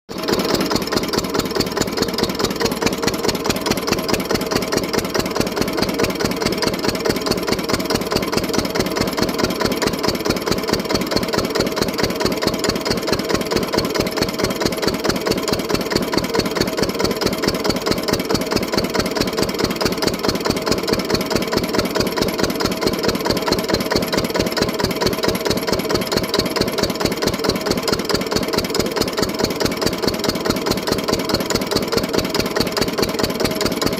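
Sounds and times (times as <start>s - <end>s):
old engine running: 0.1s - 33.9s.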